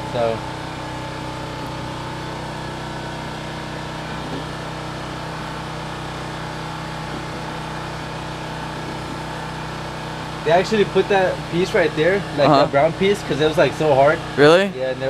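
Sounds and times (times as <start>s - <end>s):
machines humming: 0.0s - 15.0s.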